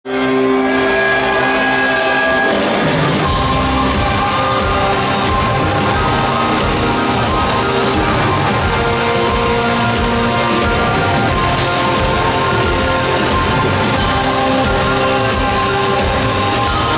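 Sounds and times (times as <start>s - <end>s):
rock band playing: 0.1s - 16.9s
drums beating: 0.4s - 16.9s.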